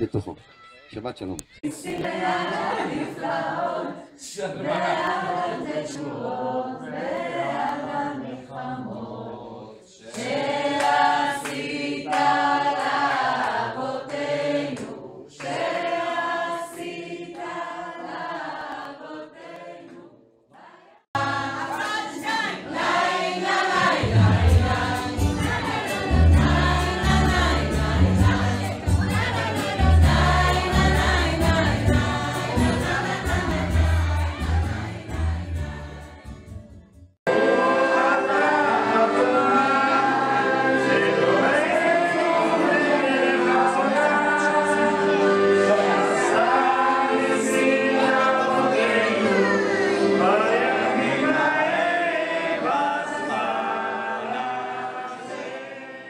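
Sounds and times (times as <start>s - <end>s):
group of people singing: 1.6s - 56.0s.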